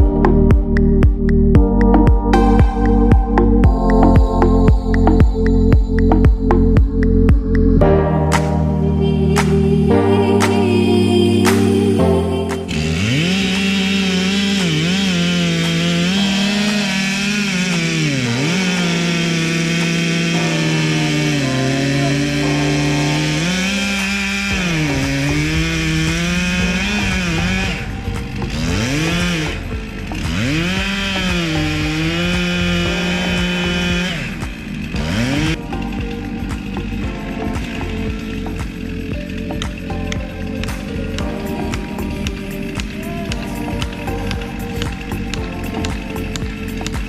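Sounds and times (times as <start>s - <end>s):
chainsaw cutting wood: 0.0s - 7.0s, 8.3s - 47.0s.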